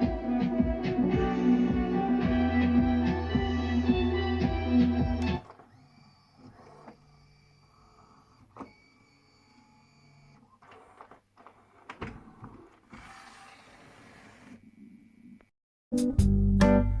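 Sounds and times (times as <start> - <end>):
motor whirring and humming: 0.0 - 14.6.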